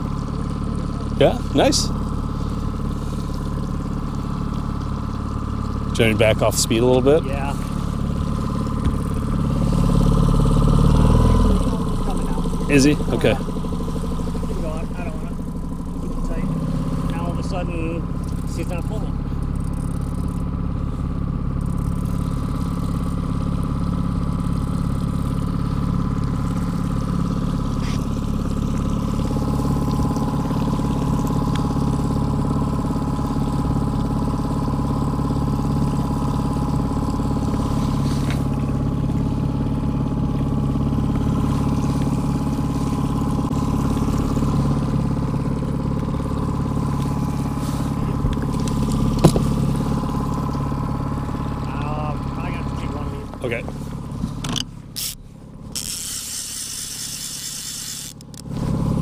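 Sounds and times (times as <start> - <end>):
outboard motor humming: 0.0 - 59.0.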